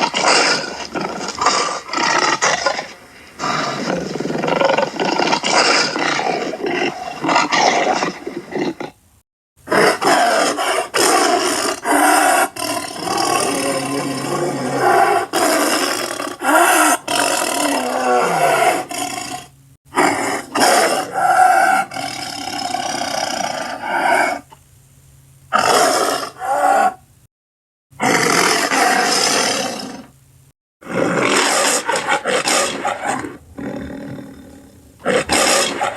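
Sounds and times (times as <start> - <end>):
animal roars: 0.0 - 9.0, 9.7 - 24.5, 25.5 - 27.0, 28.0 - 30.1, 30.8 - 35.9.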